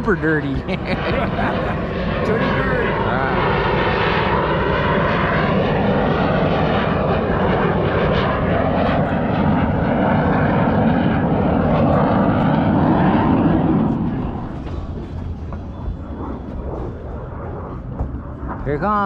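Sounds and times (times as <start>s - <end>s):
fighter jet roar: 0.0s - 19.0s.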